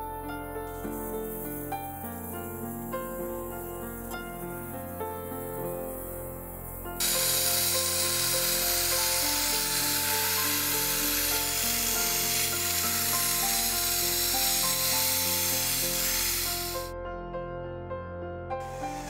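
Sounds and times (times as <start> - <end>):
sandblasting nozzle hissing: 0.7 - 16.9, 18.6 - 19.0.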